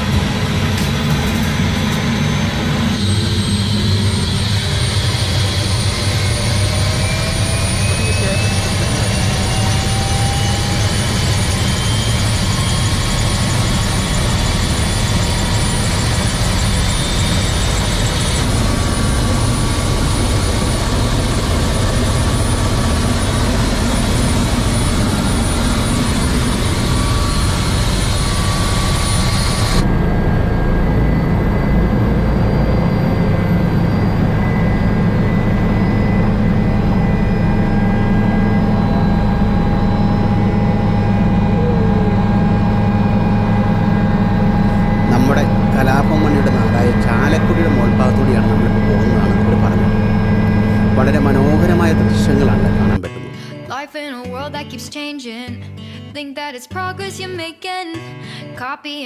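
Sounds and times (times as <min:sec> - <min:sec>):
helicopter cabin drone: 0:00.0 - 0:53.7.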